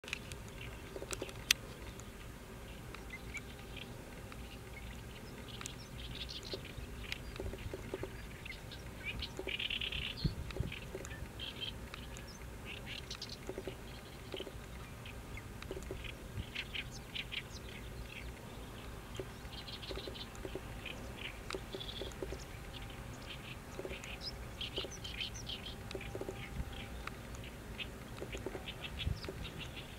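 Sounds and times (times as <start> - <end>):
bird chirps: 2.9 - 29.9.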